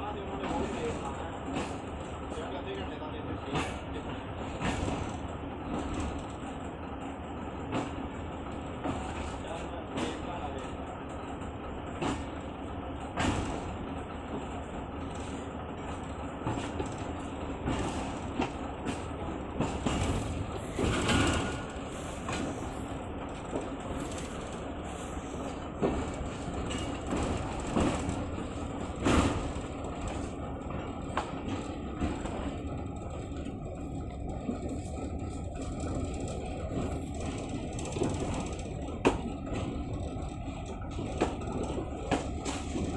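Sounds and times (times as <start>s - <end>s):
passenger train rumbling: 0.0s - 42.9s.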